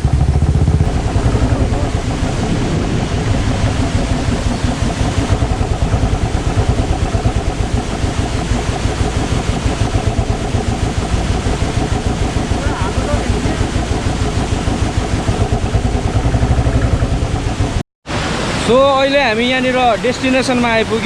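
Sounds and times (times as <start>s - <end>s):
motorcycle engine running: 0.0s - 17.8s.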